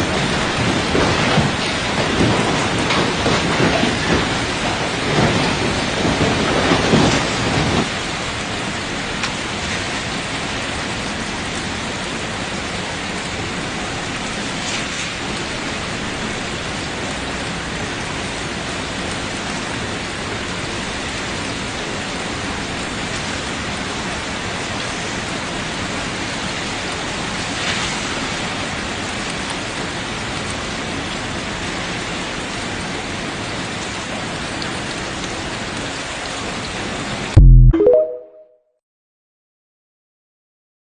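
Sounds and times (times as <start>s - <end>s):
heavy rain falling: 0.0s - 37.4s.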